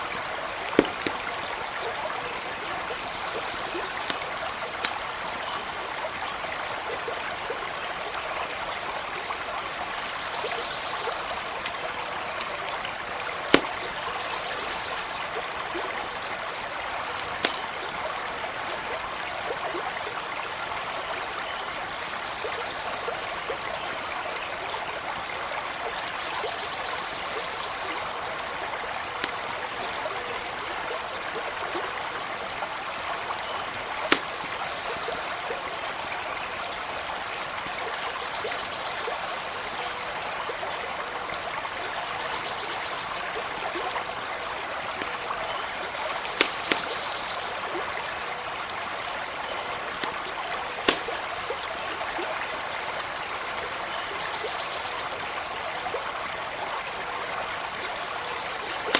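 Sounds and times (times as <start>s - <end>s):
campfire popping and crackling: 0.0s - 20.6s, 22.0s - 26.4s, 27.4s - 53.8s, 54.5s - 58.9s
brook running: 0.0s - 58.9s.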